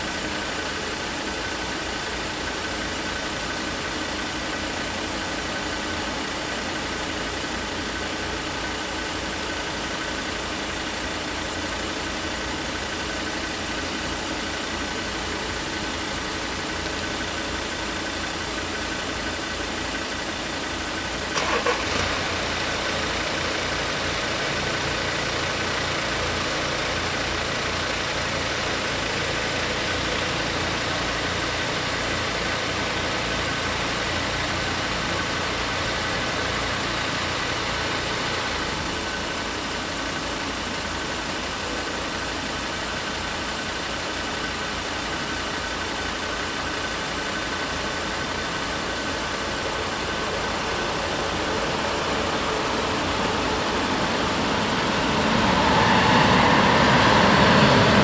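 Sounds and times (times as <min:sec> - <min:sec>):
car engines idling: 0:00.0 - 0:58.0.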